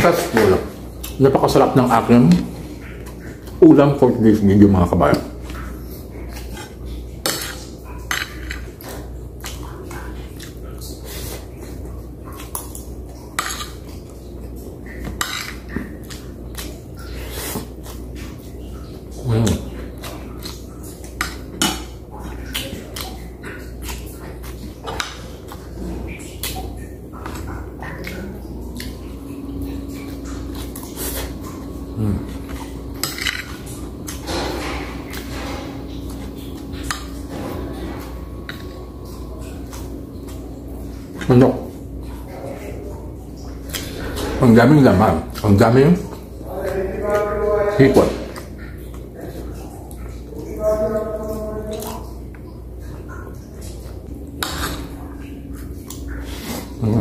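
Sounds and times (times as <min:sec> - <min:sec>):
low steady hum: 0:00.0 - 0:57.0
person chewing: 0:00.4 - 0:01.2, 0:05.3 - 0:44.5, 0:48.0 - 0:57.0.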